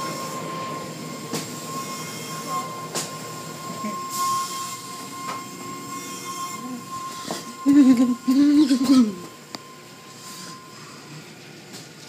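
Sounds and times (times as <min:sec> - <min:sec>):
car wash machine whine: 0:00.0 - 0:12.0.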